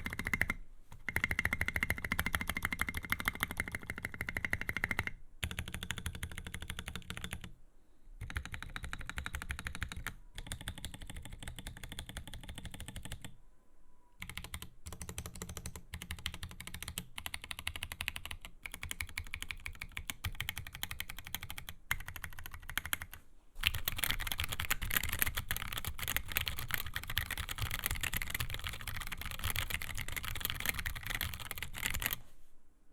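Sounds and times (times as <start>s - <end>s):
mechanical keyboard typing: 0.0s - 7.5s, 8.2s - 13.3s, 14.2s - 32.2s.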